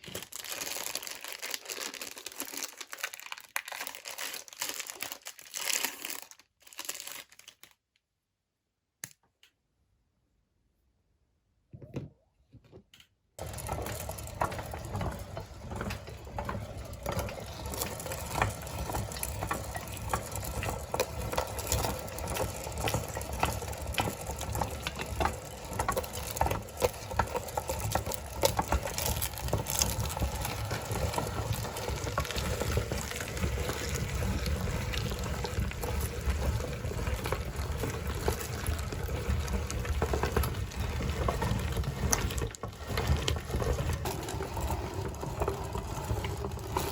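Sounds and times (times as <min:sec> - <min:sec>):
meat grinder running: 0:00.0 - 0:06.2, 0:13.4 - 0:46.9.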